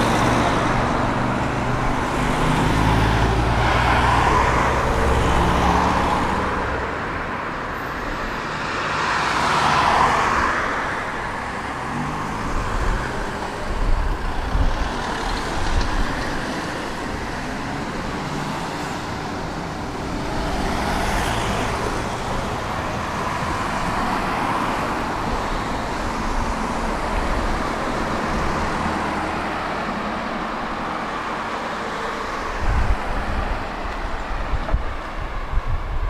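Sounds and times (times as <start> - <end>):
road traffic: 0.0 - 36.0
tram running: 0.0 - 36.0.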